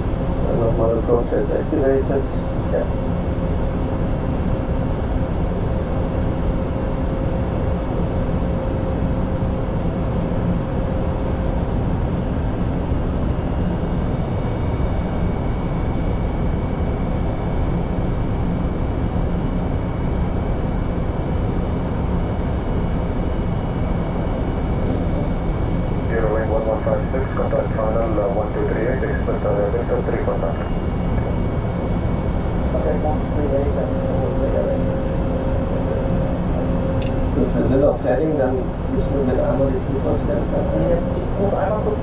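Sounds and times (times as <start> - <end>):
airflow and engines rumbling: 0.0 - 42.0.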